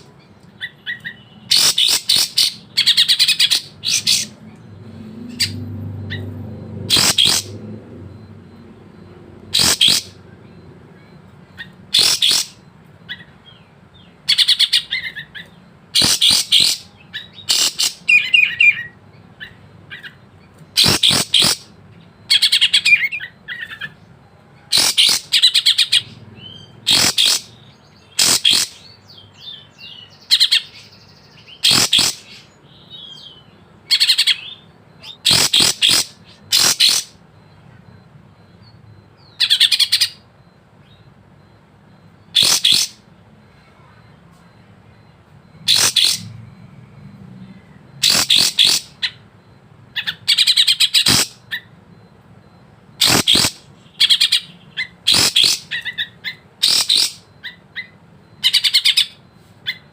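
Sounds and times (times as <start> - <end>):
bird singing chirps and trills: 0.0 - 43.7, 45.5 - 49.3, 49.9 - 51.8, 53.0 - 59.9.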